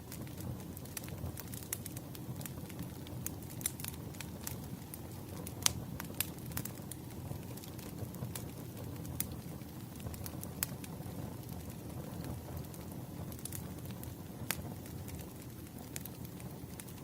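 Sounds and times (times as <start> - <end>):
fire crackles and pops: 0.0 - 17.0
wood fire rushing: 0.0 - 17.0.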